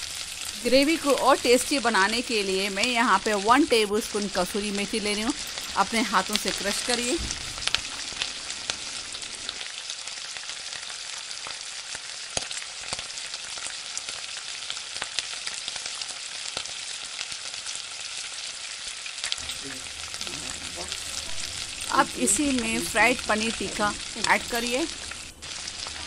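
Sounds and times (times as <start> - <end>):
gravy sizzling in a pan: 0.0 - 26.0.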